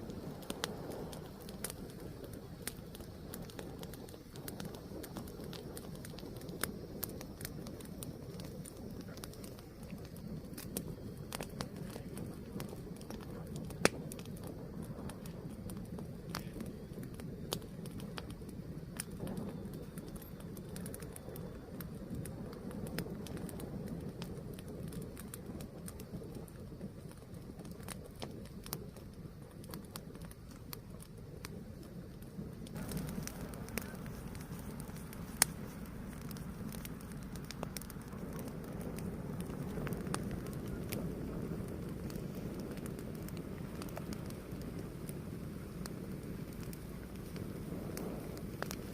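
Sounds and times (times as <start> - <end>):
fire crackling and popping: 0.0 - 48.9
fire rumbling: 0.0 - 48.9.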